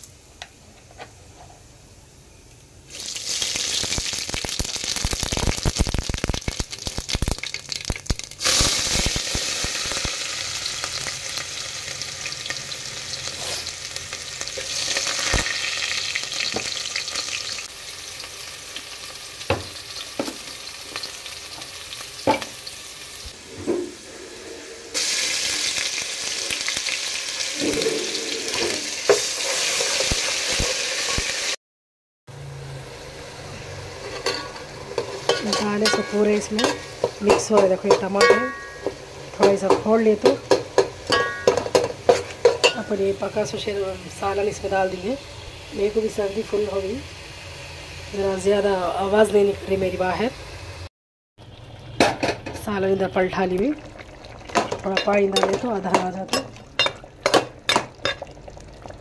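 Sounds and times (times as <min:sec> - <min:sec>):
spices and onions sizzling in oil: 0:00.0 - 0:31.6, 0:32.3 - 0:59.0.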